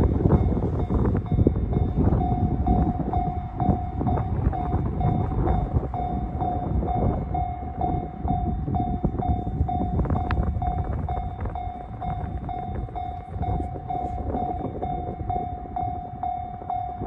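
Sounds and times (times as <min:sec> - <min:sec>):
level-crossing electronic bell: 0:00.0 - 0:17.0
low rumble: 0:00.0 - 0:17.0.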